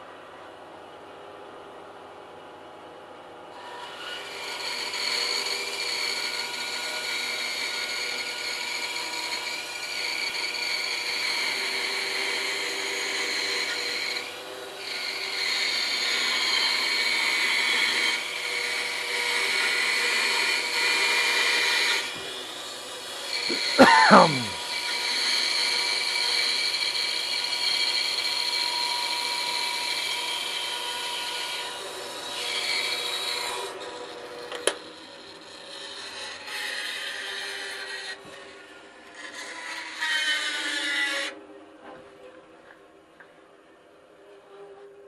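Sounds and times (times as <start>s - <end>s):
bandsaw cutting wood: 3.6s - 41.4s.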